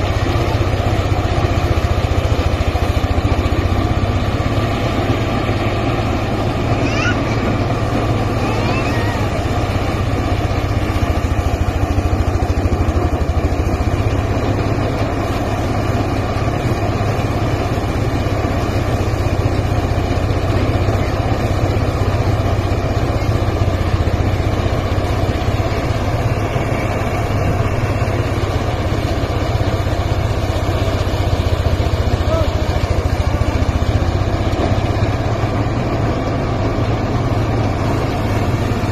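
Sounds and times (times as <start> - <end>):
thresher engine running: 0.0 - 38.9.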